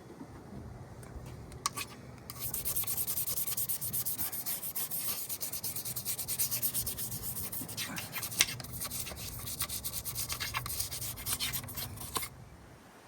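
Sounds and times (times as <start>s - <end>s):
faint low hum: 0.0s - 13.0s
rubbing on a hard surface: 1.8s - 12.3s.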